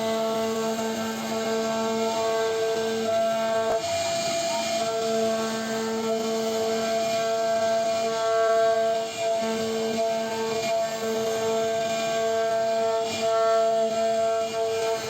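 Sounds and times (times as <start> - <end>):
cnc router spindle whining: 0.0 - 15.0.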